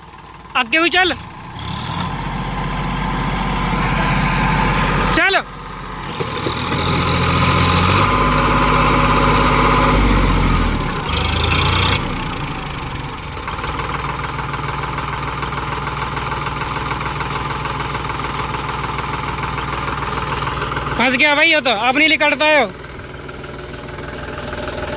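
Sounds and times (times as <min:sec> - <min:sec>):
tractor diesel engine revving: 0:00.0 - 0:24.9.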